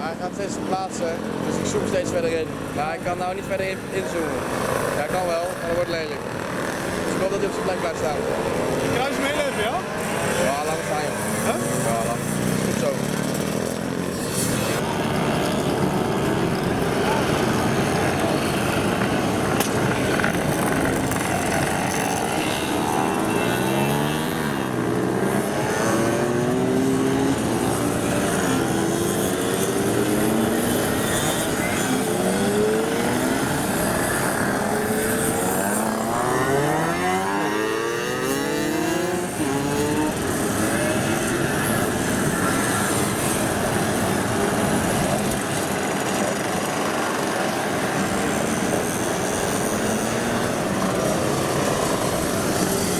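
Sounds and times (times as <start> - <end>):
mopeds riding past: 0.0 - 52.9.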